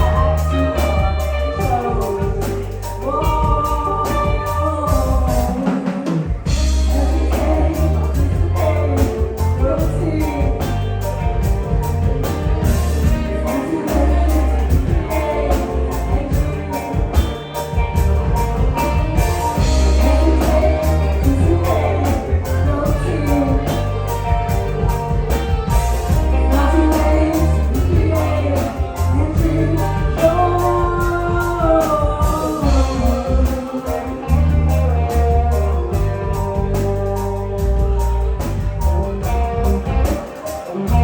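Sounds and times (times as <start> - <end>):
drum kit with cymbals: 0.0 - 41.0
live band playing: 0.0 - 41.0
person singing: 0.0 - 41.0.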